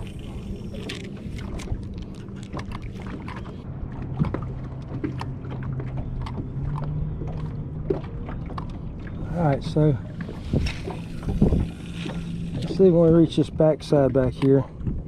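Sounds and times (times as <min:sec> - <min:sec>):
steady low hum: 0:00.0 - 0:15.0
water lapping against boat hull: 0:00.0 - 0:15.0.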